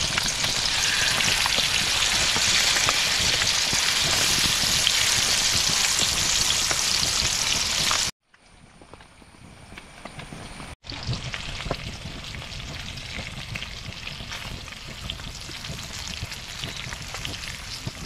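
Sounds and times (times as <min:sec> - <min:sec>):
fish frying with crackles: 0:00.0 - 0:08.2, 0:10.8 - 0:18.0.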